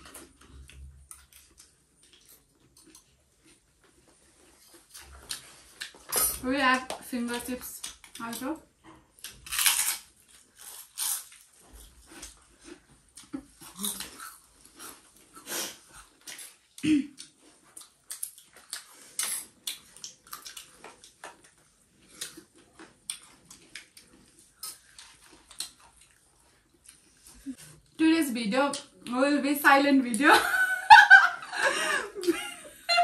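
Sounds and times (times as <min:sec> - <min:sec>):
crunching and chewing: 0:00.0 - 0:06.4, 0:07.8 - 0:28.0.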